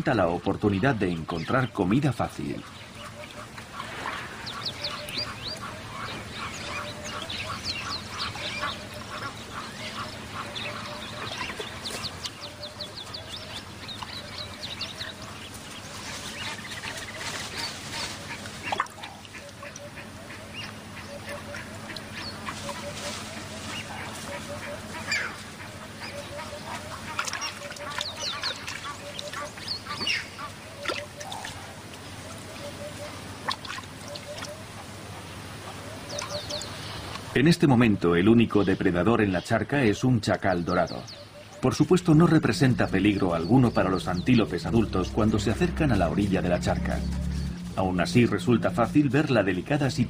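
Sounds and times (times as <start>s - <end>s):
wild birds chirping and trilling: 0.0s - 50.0s.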